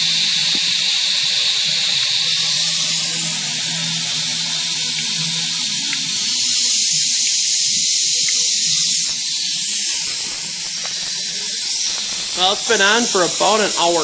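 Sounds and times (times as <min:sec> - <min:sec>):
air compressor humming: 0:00.0 - 0:14.0
compressed air hissing: 0:00.0 - 0:14.0.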